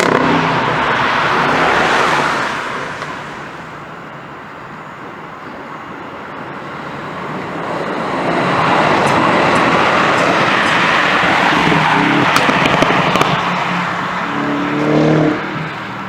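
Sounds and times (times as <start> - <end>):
car engine approaching: 0.0 - 16.0.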